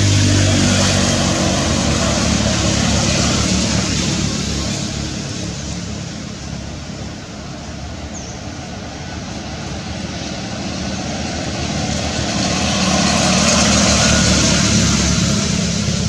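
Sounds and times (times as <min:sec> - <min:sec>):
engine passing by: 0:00.0 - 0:16.0.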